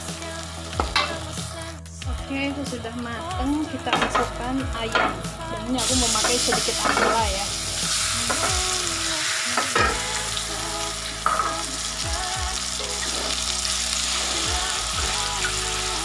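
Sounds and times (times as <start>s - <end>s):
chicken sizzling in a wok: 0.0s - 16.0s.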